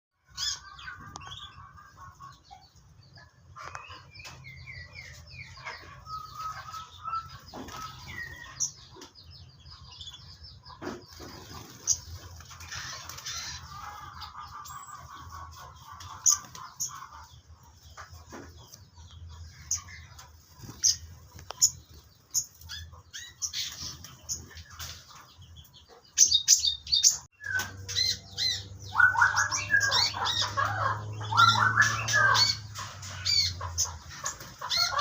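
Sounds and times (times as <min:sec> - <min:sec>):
birds chirping and calling: 0:00.2 - 0:35.0.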